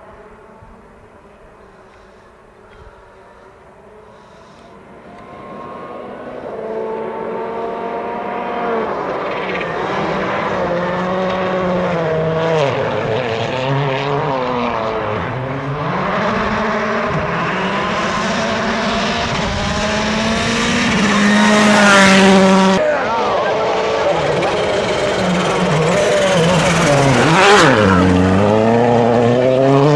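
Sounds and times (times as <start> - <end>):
rally car engine passing at speed: 3.0 - 29.9.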